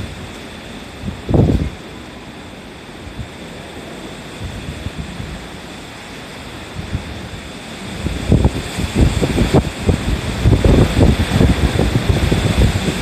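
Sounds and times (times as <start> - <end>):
wind gusts buffeting microphone: 0.0 - 13.0
wind rushing: 0.0 - 13.0.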